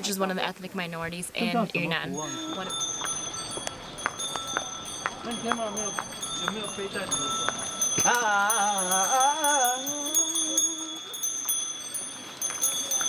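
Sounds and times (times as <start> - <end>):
faint steady high tones: 1.0 - 13.0
wavering melody line: 2.1 - 13.0.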